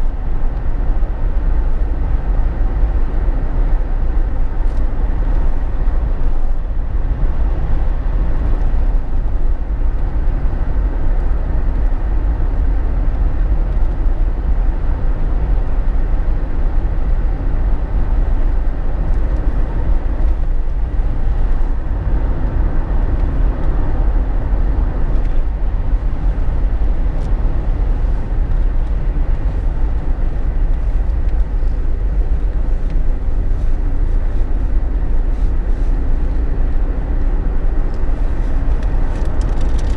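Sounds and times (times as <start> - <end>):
tyre and wind noise: 0.0 - 39.9.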